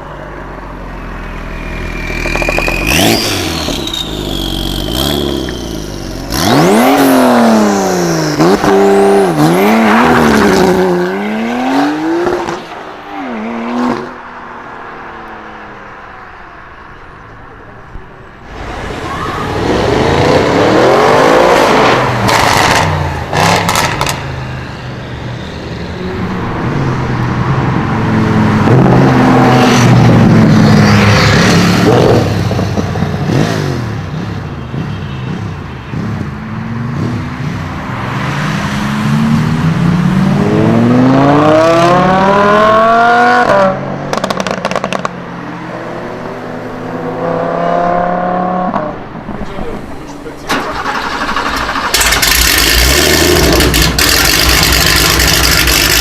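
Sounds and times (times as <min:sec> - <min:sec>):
car engine revving: 0:01.0 - 0:14.4, 0:18.4 - 0:24.6, 0:26.4 - 0:56.0.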